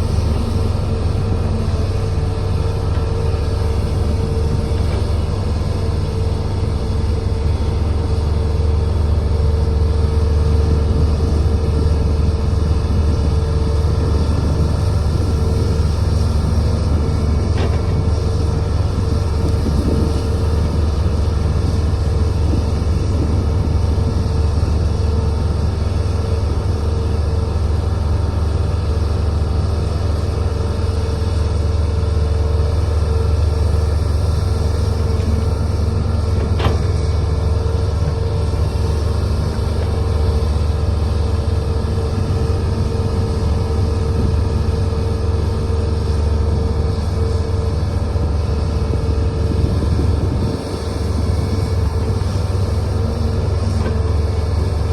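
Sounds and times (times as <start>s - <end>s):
diesel engine rumbling: 0.0s - 54.9s.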